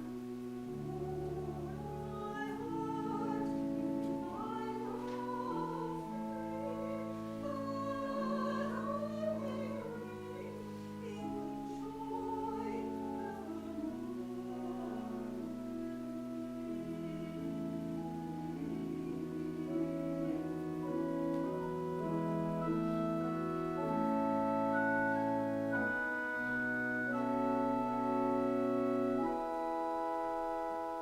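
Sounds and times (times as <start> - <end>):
voices singing a hymn: 0.0 - 27.6
sustained accompanying chords: 0.0 - 31.0.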